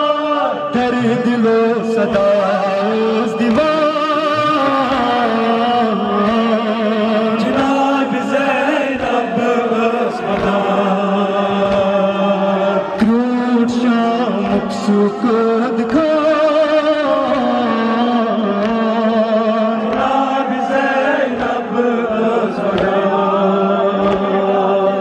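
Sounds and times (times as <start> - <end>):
voices chanting a lament: 0.0 - 25.0.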